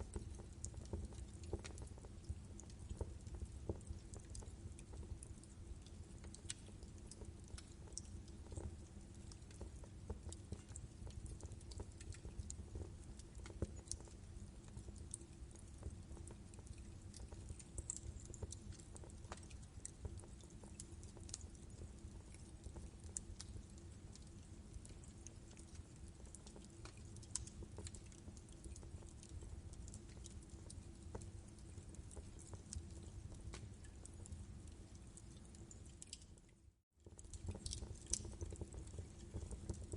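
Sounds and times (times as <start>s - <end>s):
log fire crackling: 0.0s - 36.4s, 37.0s - 39.9s
faint steady hum: 0.0s - 39.9s.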